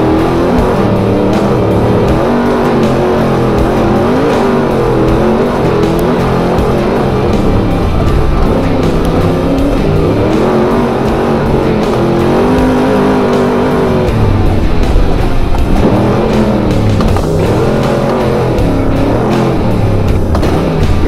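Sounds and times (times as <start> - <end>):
rock music with guitar: 0.0 - 21.0
truck engine revving: 0.0 - 21.0.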